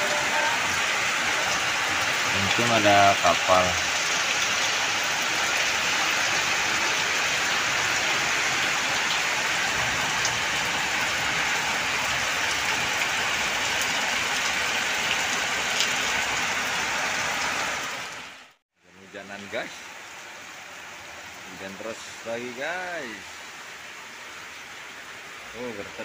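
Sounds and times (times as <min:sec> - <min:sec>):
rain pattering on surfaces: 0:00.0 - 0:26.0.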